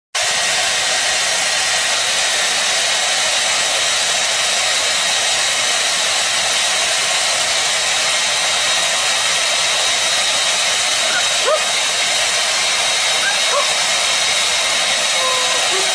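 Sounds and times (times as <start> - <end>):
hair dryer blowing: 0.2 - 15.9.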